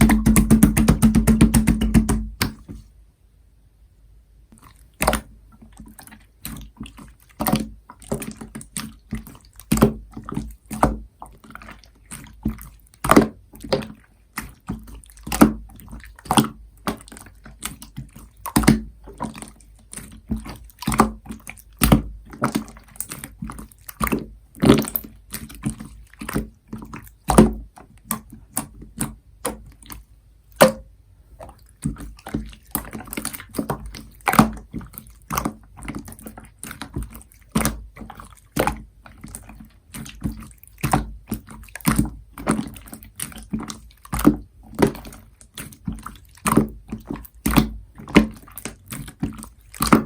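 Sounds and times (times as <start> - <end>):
slime squishing with wet pops: 0.0 - 2.9, 4.5 - 50.0.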